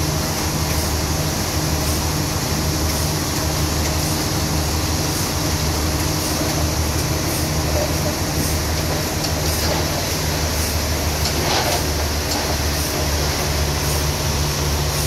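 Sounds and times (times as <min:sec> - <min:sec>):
forklift engine droning: 0:00.0 - 0:15.0.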